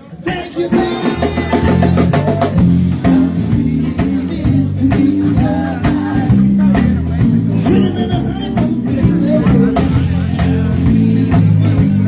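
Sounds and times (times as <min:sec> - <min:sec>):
drum kit beat: 0:00.1 - 0:12.0
bass guitar notes: 0:00.3 - 0:12.0.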